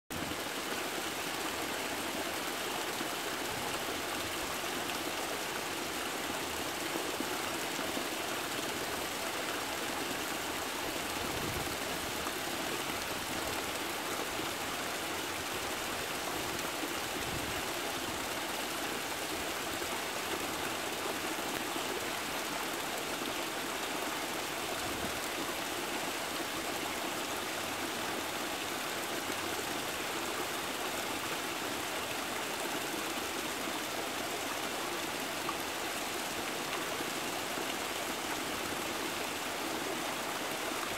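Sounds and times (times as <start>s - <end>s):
small waterfall splashing: 0.1s - 40.9s.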